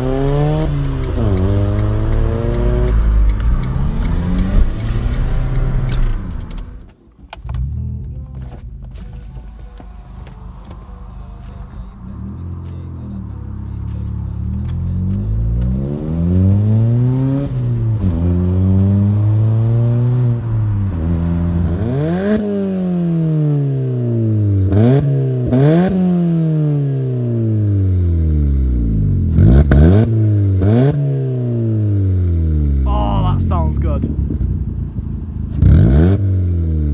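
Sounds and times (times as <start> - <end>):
exhaust cracks: 0.0 - 16.0, 17.0 - 36.9
car engine revving: 0.0 - 36.9.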